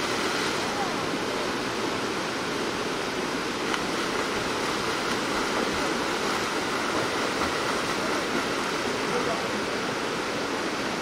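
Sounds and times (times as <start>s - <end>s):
stream rapids rushing: 0.0s - 11.0s.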